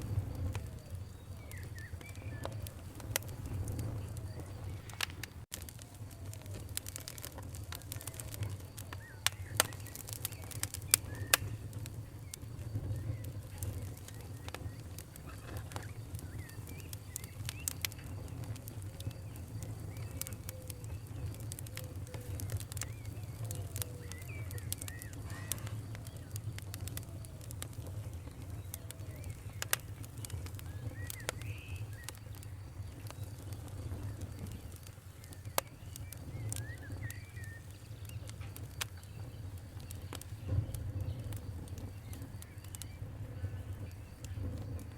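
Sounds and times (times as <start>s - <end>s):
birds chirping: 0.0s - 44.9s
campfire crackling and popping: 0.0s - 44.9s.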